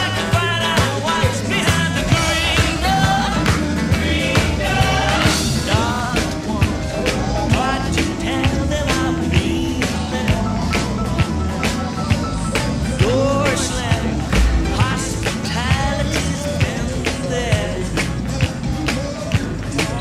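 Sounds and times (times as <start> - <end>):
rock and roll music with singing: 0.0 - 20.0.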